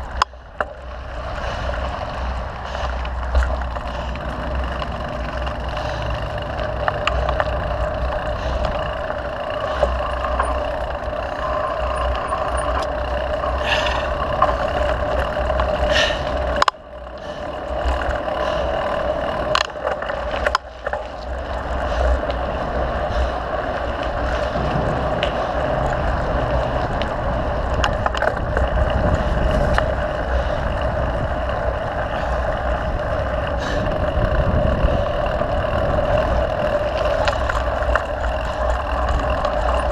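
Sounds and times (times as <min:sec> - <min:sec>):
bike rattling over bumps: 0:00.0 - 0:39.9
tyres rumbling on dirt: 0:00.0 - 0:39.9
wind: 0:00.0 - 0:39.9.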